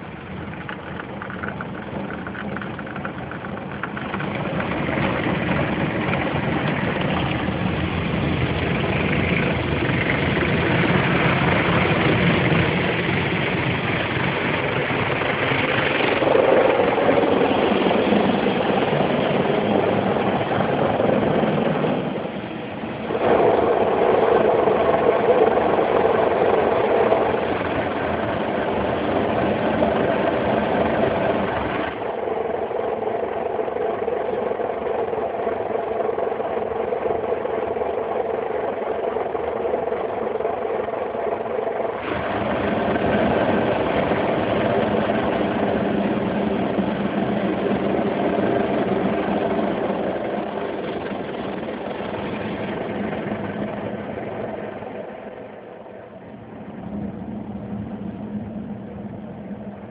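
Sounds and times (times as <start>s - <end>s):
machinery hum: 0.0s - 59.9s.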